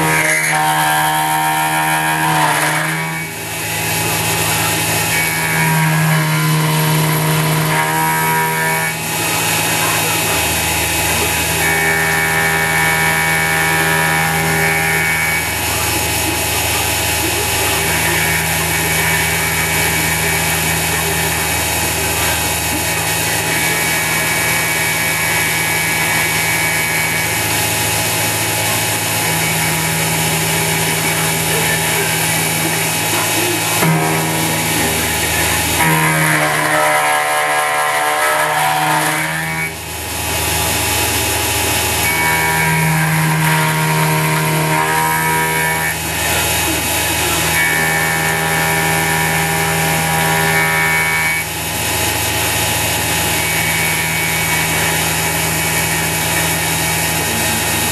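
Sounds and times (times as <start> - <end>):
cutter chattering through metal: 0.0 - 57.9
machine whines: 0.0 - 57.9
spindle motor running: 0.0 - 57.9.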